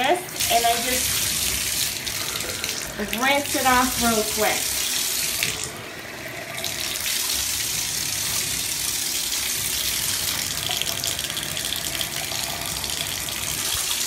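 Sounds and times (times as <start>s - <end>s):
water splashing in a bathtub: 0.0s - 14.0s.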